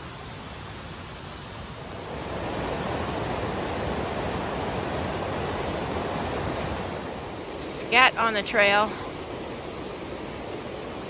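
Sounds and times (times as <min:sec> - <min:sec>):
mountain creek rushing: 0:00.0 - 0:11.0.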